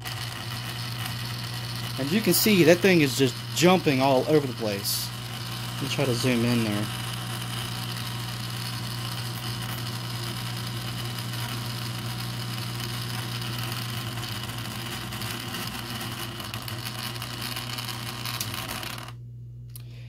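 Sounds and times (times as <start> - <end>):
pump motor humming: 0.0 - 19.2.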